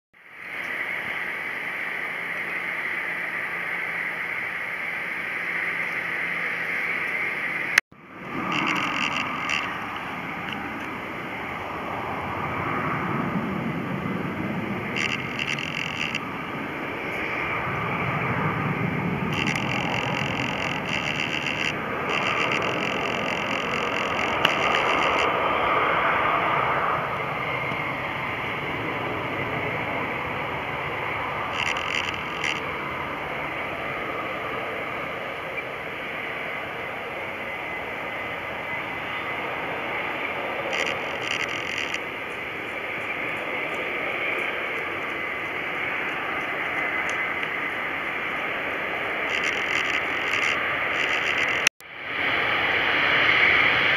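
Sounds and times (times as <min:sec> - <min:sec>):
distant jet engines rushing: 0:00.2 - 0:53.9.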